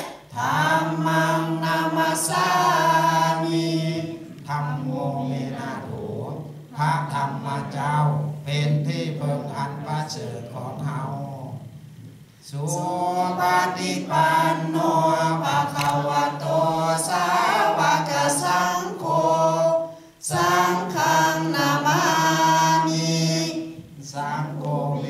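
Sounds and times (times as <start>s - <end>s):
congregation chanting in unison: 0.0s - 11.8s, 12.4s - 25.0s.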